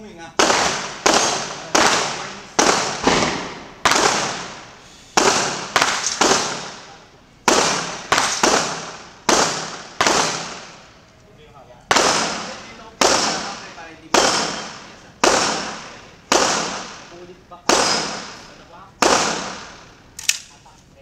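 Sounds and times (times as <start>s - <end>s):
gunshots with echo: 0.3s - 10.9s, 11.9s - 20.0s.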